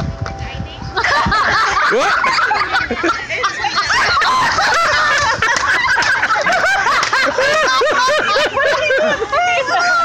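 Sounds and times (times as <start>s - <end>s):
people laughing hard: 1.0s - 10.0s.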